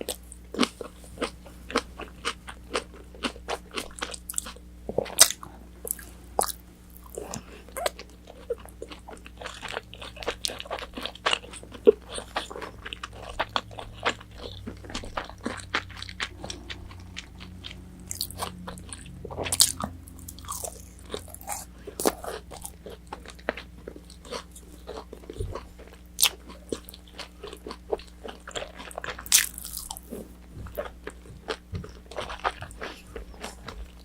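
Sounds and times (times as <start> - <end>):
chewing crispy fried chicken: 0.0 - 34.0.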